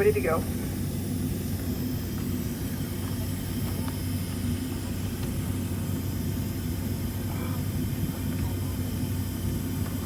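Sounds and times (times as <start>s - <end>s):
airplane cabin hum: 0.0s - 10.0s.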